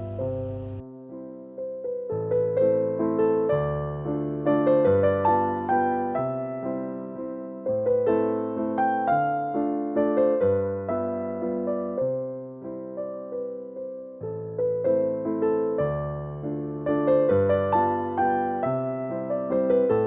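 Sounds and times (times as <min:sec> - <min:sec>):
soft electric piano music: 0:00.0 - 0:20.0.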